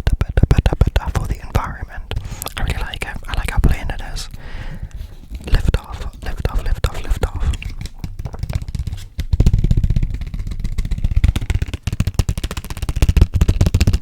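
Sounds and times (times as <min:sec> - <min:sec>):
fast tapping on microphone: 0:00.0 - 0:14.0.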